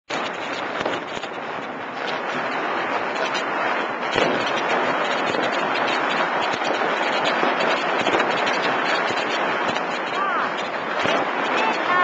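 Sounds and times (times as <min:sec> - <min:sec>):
fireworks crackling and banging: 0:00.1 - 0:12.0.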